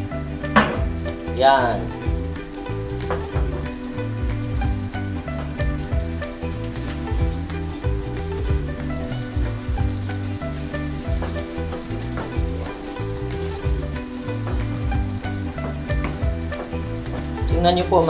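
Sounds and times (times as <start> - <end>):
sauce bubbling and sizzling: 0.0 - 18.0
wooden spoon stirring sauce: 2.6 - 18.0.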